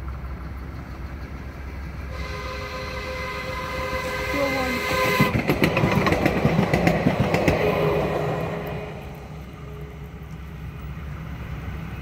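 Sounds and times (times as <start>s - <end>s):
light rail train wheels clattering: 0.0s - 12.0s.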